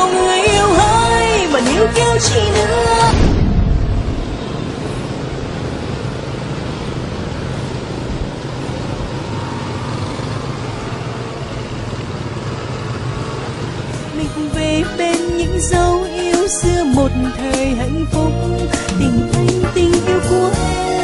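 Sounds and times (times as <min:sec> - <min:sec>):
road and traffic noise: 0:00.0 - 0:21.0.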